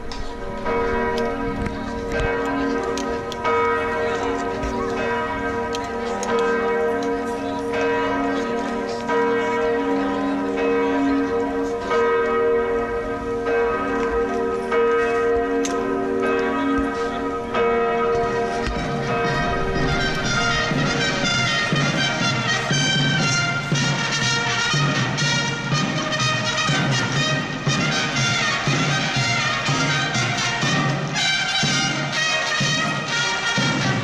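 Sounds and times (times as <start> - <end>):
church bells pealing: 0.0 - 34.0.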